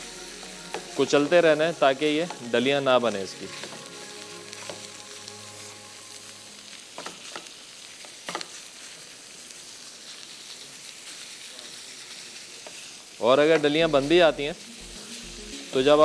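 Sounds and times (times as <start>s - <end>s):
mince sizzling in a pan: 0.0s - 16.0s.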